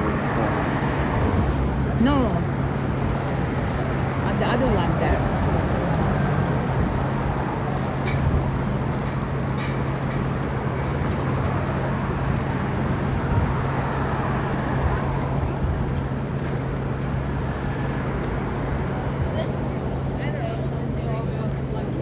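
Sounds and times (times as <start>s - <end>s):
low engine hum: 0.0s - 22.0s
passing vehicles: 0.0s - 22.0s.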